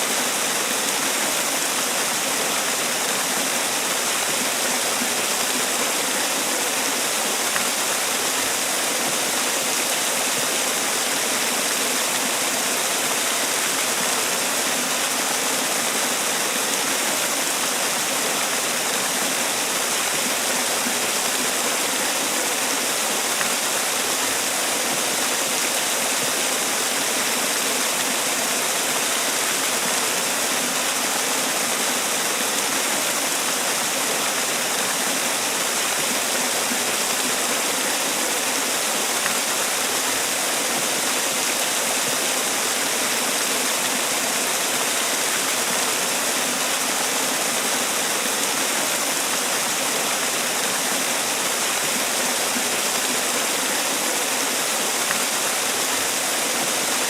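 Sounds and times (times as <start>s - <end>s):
waterfall splashing: 0.0s - 57.0s.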